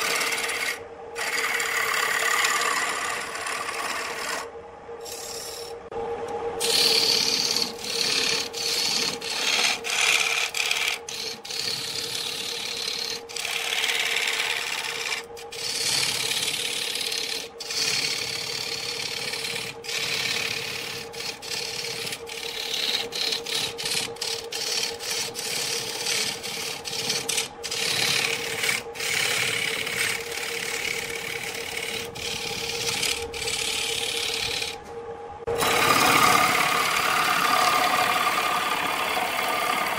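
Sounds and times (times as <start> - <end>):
turning tool rasping on wood: 0.0 - 5.8, 6.6 - 34.8, 35.6 - 39.9
lathe motor humming: 0.0 - 39.9.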